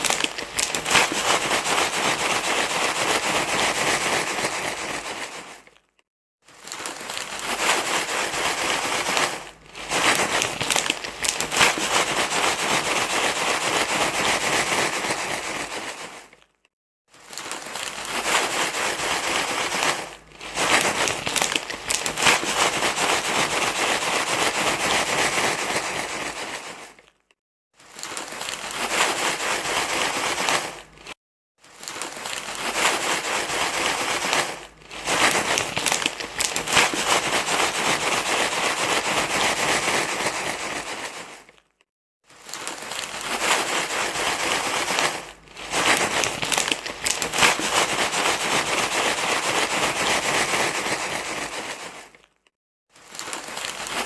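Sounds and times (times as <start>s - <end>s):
rustling and crinkling: 0.0s - 54.0s.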